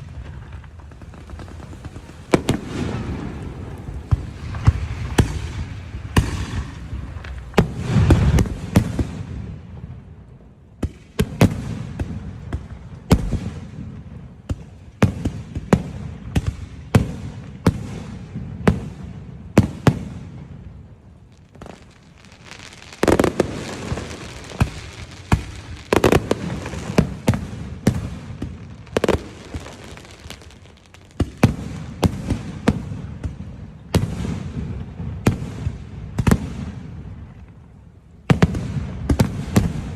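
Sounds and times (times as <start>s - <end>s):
firework bursts banging: 0.0s - 10.0s, 10.8s - 37.6s
rumbling crackle of fireworks: 0.0s - 39.9s.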